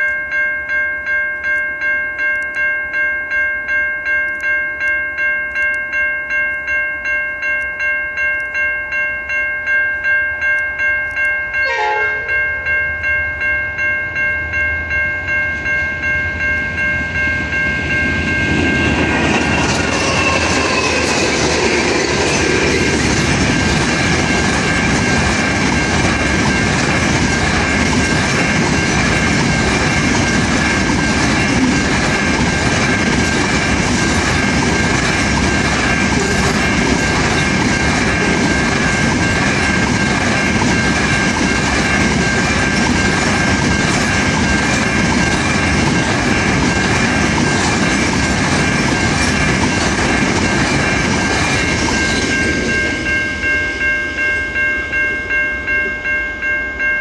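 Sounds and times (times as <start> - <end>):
level crossing warning bell: 0.0 - 57.0
steady warning tone: 10.5 - 57.0
freight train rumble and wheel clatter: 11.1 - 57.0.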